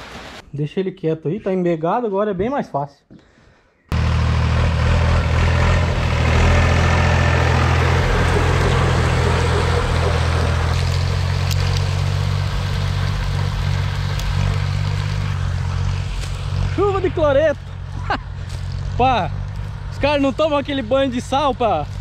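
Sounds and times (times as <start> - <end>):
tractor engine running: 3.9 - 22.0.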